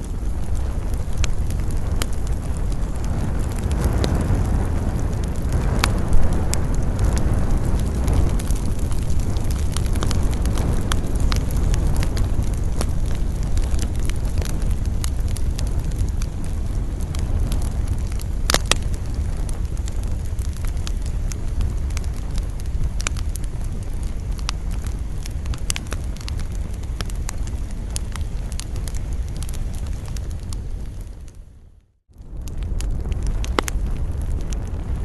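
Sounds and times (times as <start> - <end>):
campfire crackling and popping: 0.0 - 35.0
low rumble of wind: 0.0 - 35.0.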